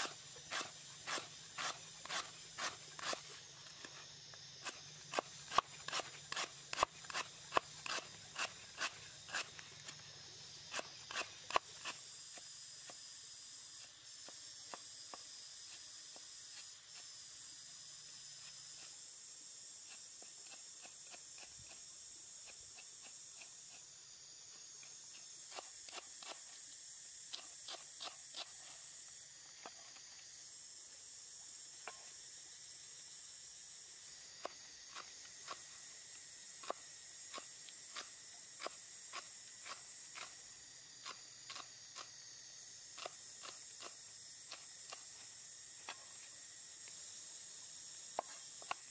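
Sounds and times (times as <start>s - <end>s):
insects droning: 0.0s - 48.9s.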